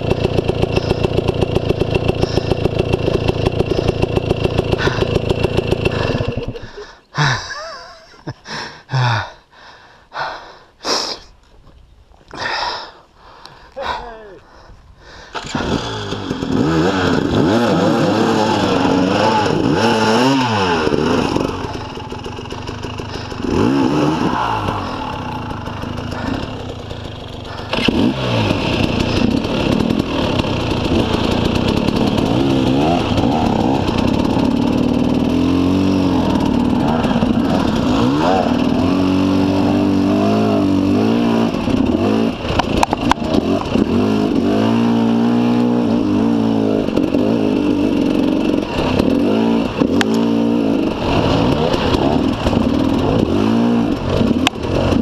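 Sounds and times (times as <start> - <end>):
dirt bike engines revving: 0.0 - 9.4, 15.2 - 55.0.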